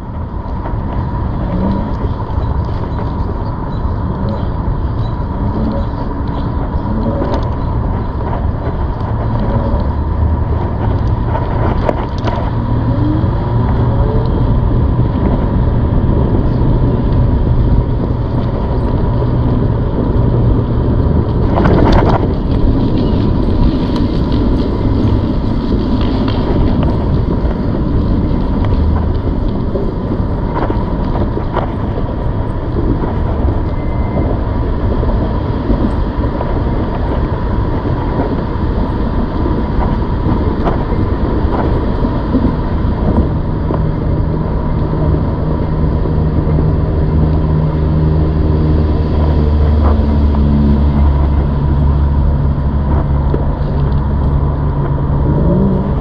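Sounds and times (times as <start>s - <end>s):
electric bike riding rumble: 0.0s - 56.0s
wind on microphone: 0.0s - 56.0s.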